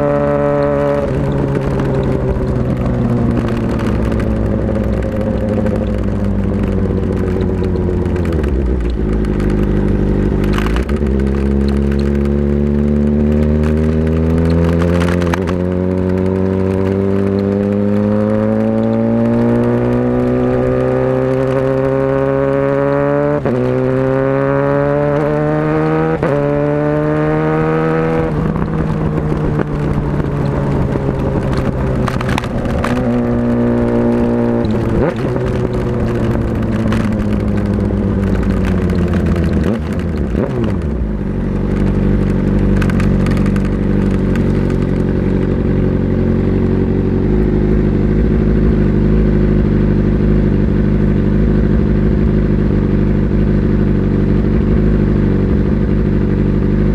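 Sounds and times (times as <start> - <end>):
motorcycle engine shifting gears: 0.0 - 56.9.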